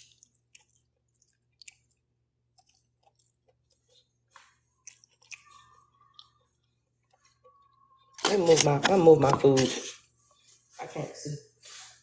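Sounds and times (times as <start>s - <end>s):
faint chewing: 0.0s - 10.7s.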